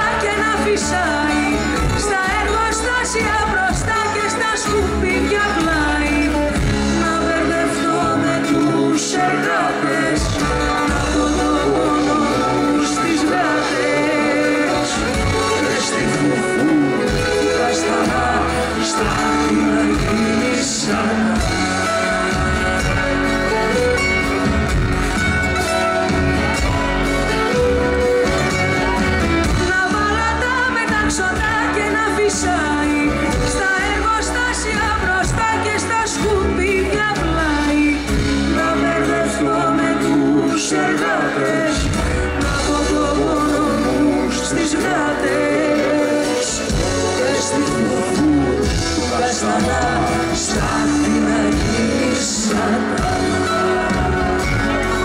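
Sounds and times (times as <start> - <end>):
woman singing with band: 0.0 - 24.0, 28.0 - 55.0.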